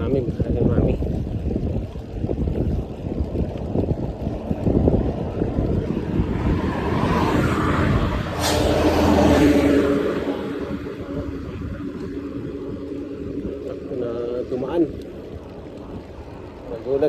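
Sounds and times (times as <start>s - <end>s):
road traffic noise: 0.0s - 17.0s
wind rumbling on microphone: 0.0s - 17.0s
motor vehicle passing: 2.5s - 17.0s.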